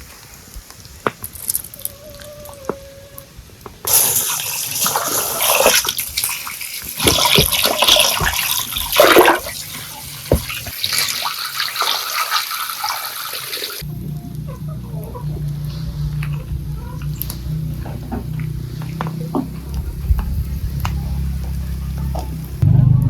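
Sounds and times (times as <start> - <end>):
water pouring and splashing: 0.0 - 22.6.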